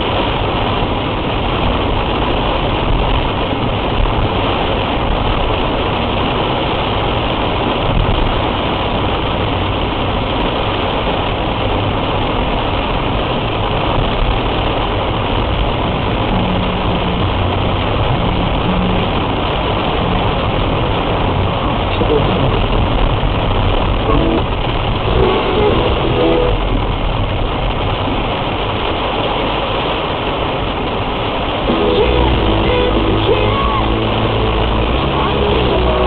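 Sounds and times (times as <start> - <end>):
car engine running low: 0.0 - 36.0
heavy rain on a car: 0.0 - 36.0.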